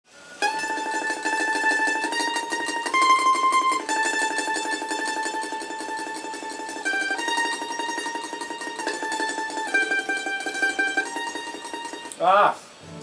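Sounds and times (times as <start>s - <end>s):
mandolin tremolo melody: 0.4s - 12.1s.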